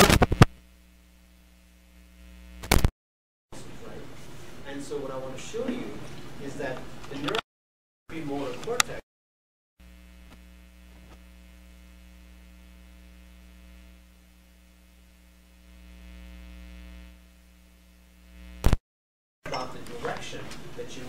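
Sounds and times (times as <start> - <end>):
electrical mains hum: 0.0 - 2.9, 3.6 - 7.4, 8.1 - 9.0, 9.8 - 18.8, 19.5 - 21.0.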